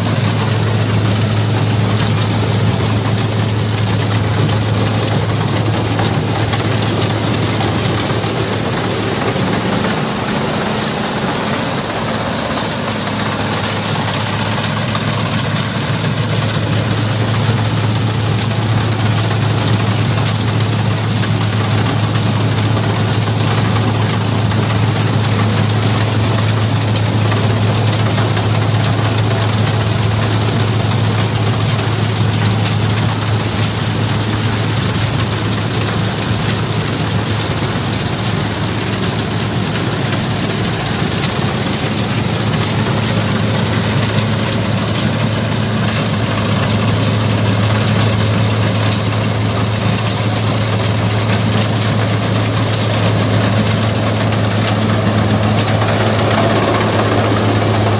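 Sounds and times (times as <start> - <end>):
heavy engine running: 0.0 - 57.9.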